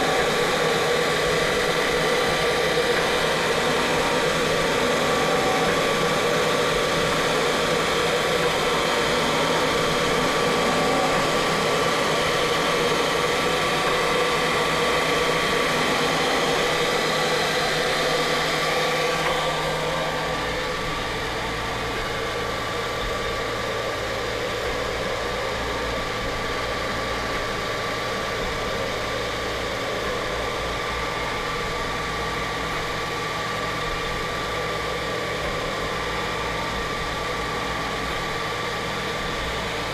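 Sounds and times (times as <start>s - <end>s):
machine hum with high tone: 0.0s - 39.9s.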